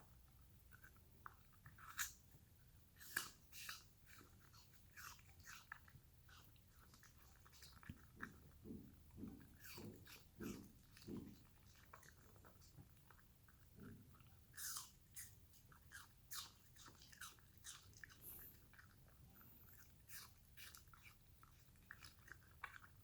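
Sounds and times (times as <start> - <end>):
dog chewing apple: 0.0 - 23.0.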